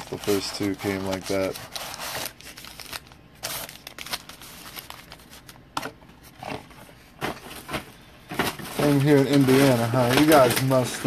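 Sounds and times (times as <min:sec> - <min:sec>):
card pack wrappers crinkling: 0:00.0 - 0:11.0.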